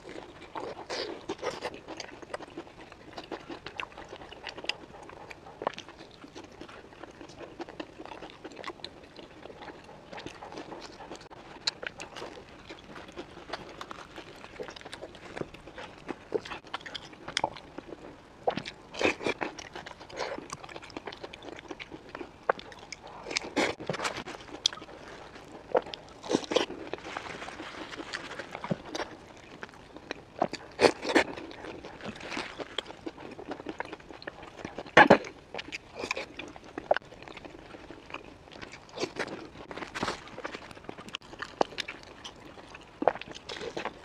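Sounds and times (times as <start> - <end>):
crunching and chewing pastry: 0.0 - 44.0.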